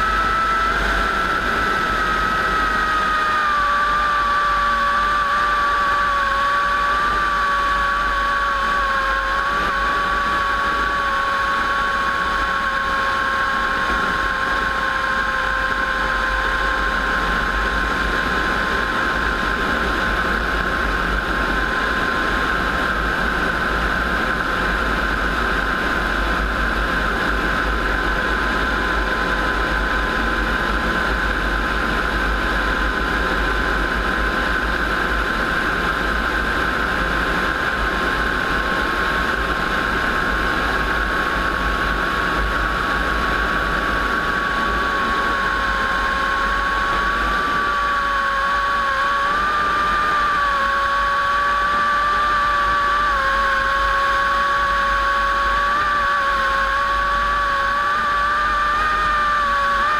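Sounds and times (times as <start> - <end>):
piston aircraft engine running: 0.0 - 59.9.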